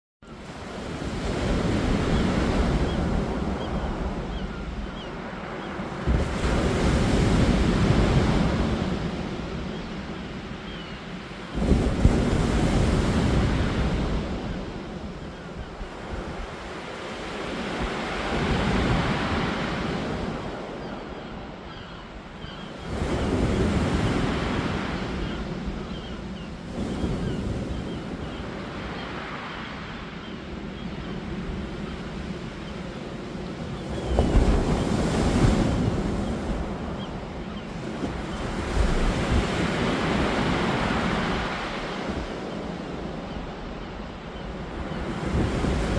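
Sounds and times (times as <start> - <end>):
ocean waves breaking on beach: 0.3 - 45.9
wind rumbling on microphone: 0.5 - 45.9.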